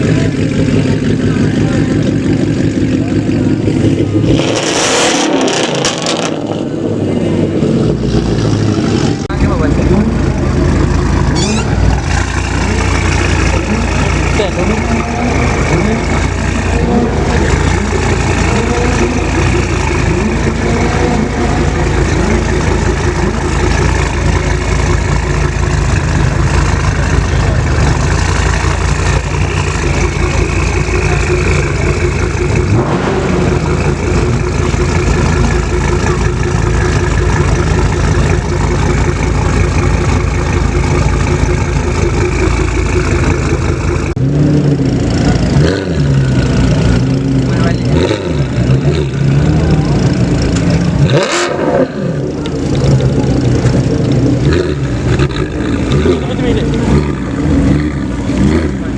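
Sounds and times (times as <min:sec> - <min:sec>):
many voices: 0:00.0 - 0:04.4, 0:06.2 - 0:37.2, 0:46.2 - 0:58.9
car engines idling and revving: 0:00.0 - 0:58.9.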